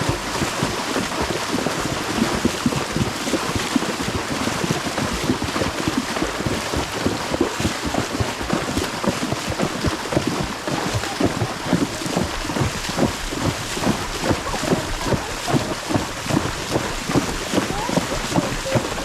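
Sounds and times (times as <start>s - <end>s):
horse splashing through water: 0.0s - 19.0s.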